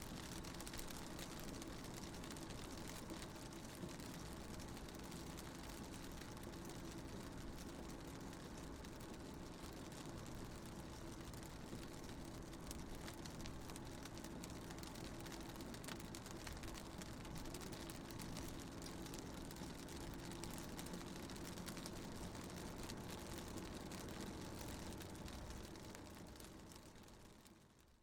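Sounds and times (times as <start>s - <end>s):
raindrops ticking on car window: 0.0s - 28.0s.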